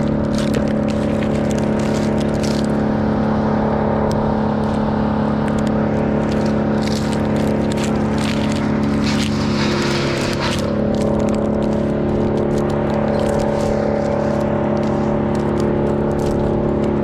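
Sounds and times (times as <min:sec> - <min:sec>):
crackling and scraping: 0:00.0 - 0:17.0
engine running steadily: 0:00.0 - 0:17.0.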